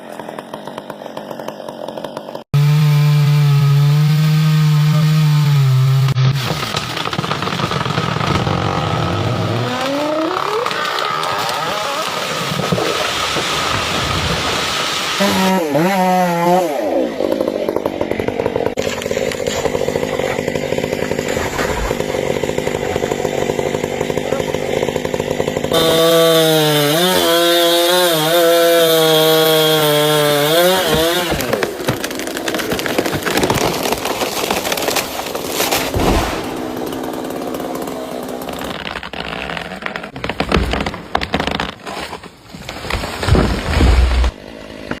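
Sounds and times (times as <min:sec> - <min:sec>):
chainsaw cutting wood: 0:00.0 - 0:45.0.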